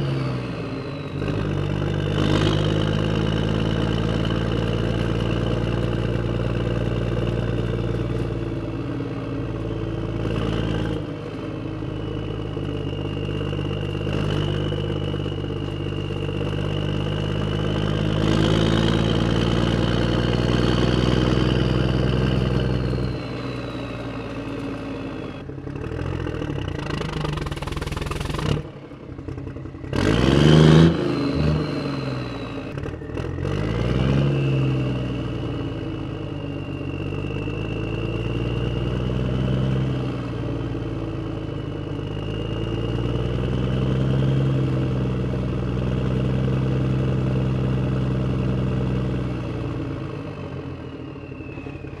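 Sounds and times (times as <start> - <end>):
tractor engine running under load: 0.0 - 52.0.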